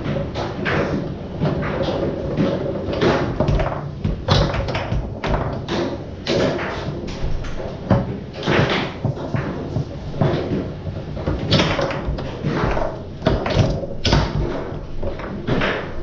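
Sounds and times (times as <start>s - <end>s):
foosball cracking against players: 0.0s - 16.0s
foosball rods knocking: 0.0s - 16.0s.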